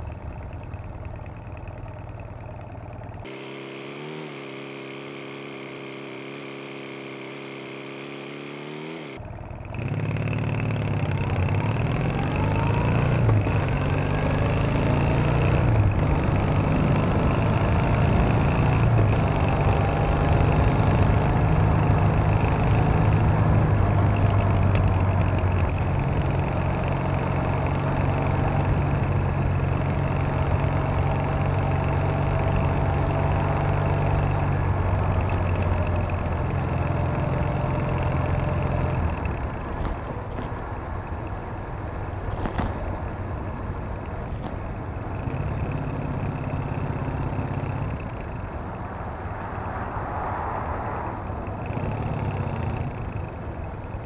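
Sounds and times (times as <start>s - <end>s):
motorcycle engine revving: 0.0s - 50.0s, 51.1s - 54.0s.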